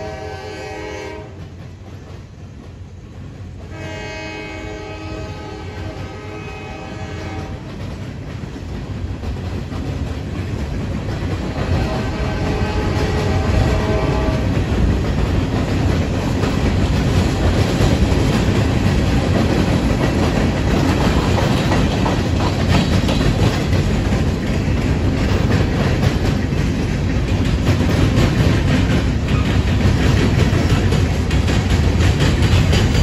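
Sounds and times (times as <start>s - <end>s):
steel wheels rumbling on rail: 0.0s - 33.0s
wheels clicking over rail joints: 5.4s - 33.0s.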